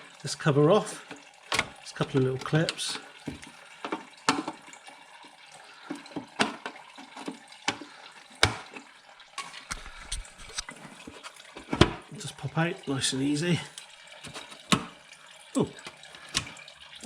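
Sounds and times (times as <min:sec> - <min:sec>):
coolant trickling: 0:00.0 - 0:17.0.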